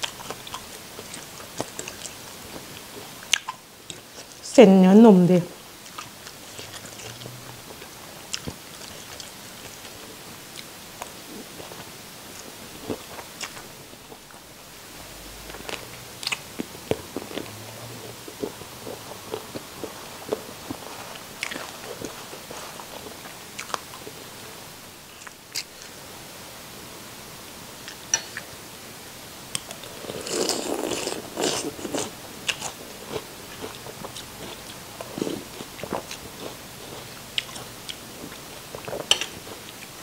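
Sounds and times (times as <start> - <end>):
person chewing noodles: 0.0 - 4.3, 5.8 - 14.4, 15.4 - 24.4, 29.5 - 40.0.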